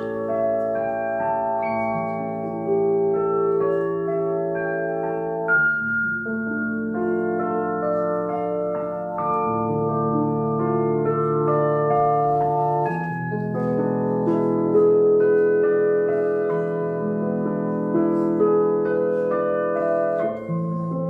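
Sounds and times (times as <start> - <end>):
slow piano-like instrumental music: 0.0 - 21.0.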